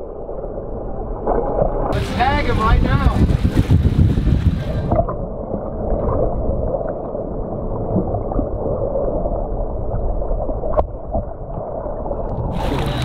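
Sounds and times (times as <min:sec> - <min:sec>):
low rumble: 0:00.0 - 0:13.0
muffled underwater water rushing: 0:00.0 - 0:13.0.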